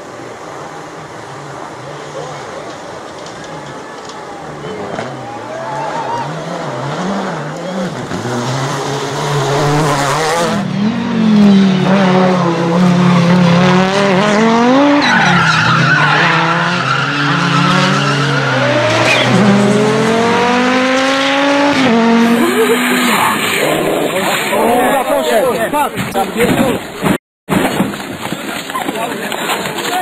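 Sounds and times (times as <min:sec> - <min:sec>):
tyres skidding: 0:00.0 - 0:30.0
rally car engine revving: 0:00.3 - 0:27.1.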